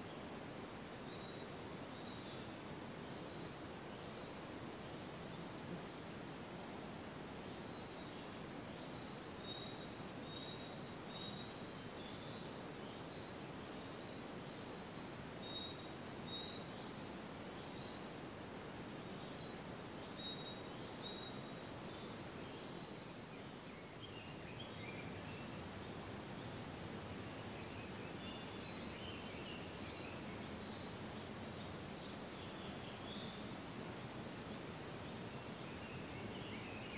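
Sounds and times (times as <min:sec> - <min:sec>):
forest ambience rustling hiss: 0:00.0 - 0:36.9
songbird singing: 0:00.0 - 0:36.9.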